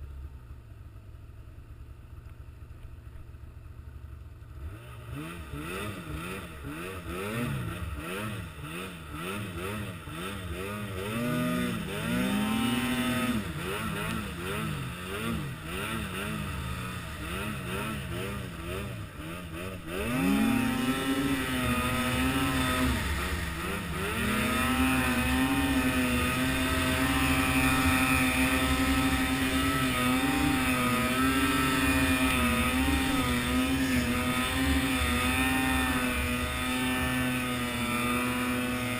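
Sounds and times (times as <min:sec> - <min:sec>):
vehicle engine revving: 0:04.5 - 0:38.9.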